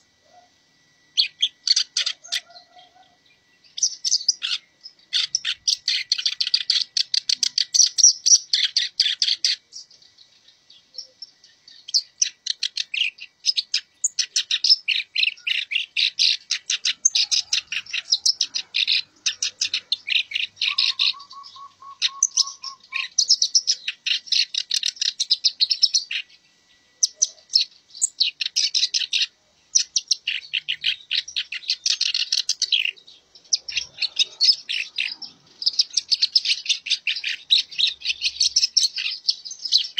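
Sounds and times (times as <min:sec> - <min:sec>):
reed warbler singing: 0:03.6 - 0:26.4, 0:27.0 - 0:39.9.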